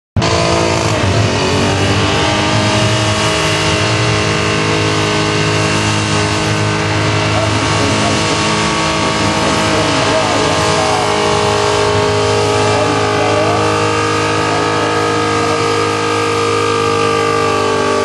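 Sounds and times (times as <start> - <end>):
car engine at high revs: 0.2 - 18.0
tyres spinning: 0.7 - 18.0.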